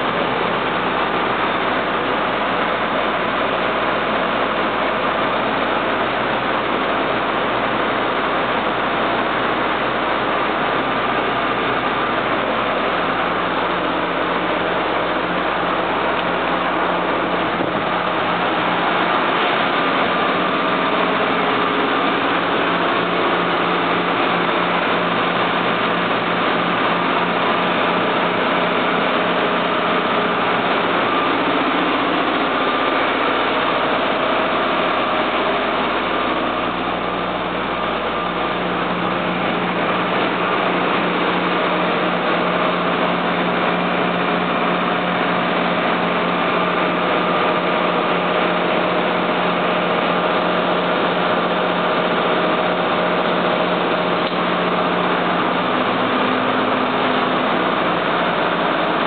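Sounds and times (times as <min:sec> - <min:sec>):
diesel boat engine idling: 0:00.0 - 0:59.0.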